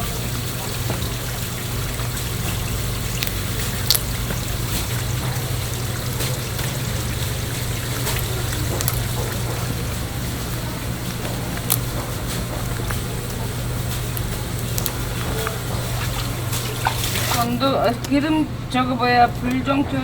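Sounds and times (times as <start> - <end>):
liquid trickling: 0.0 - 18.2
low machine hum: 0.0 - 20.0.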